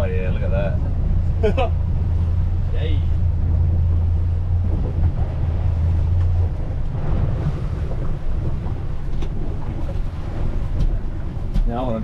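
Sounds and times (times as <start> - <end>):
boat motor hum: 0.0 - 12.0
wind buffeting microphone: 0.0 - 12.0.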